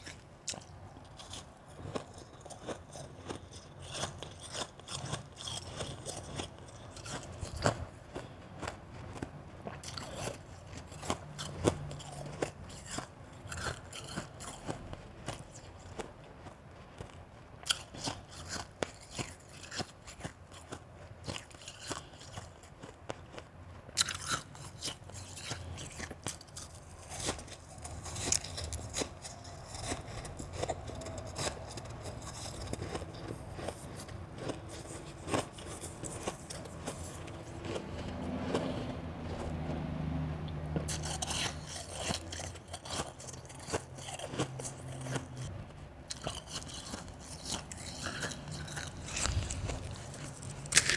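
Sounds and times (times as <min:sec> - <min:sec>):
person crunching ice: 0:00.0 - 0:23.4, 0:24.0 - 0:39.6, 0:40.8 - 0:45.5, 0:46.1 - 0:50.9.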